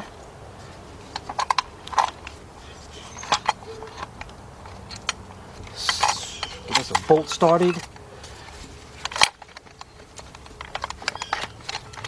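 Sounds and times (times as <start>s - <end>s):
metal bracket clinking against engine: 1.1s - 12.0s.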